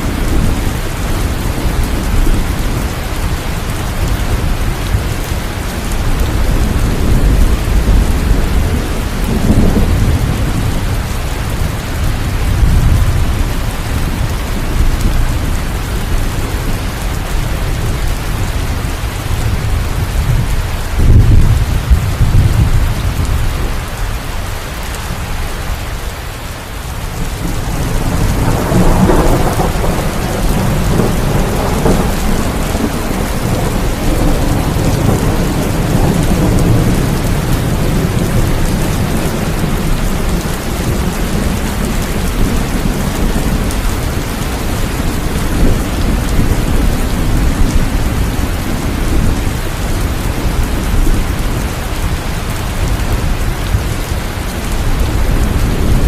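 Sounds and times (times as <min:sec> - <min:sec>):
thunder rumbling: 0:00.0 - 0:24.2, 0:27.0 - 0:56.0
heavy rain: 0:00.0 - 0:56.0.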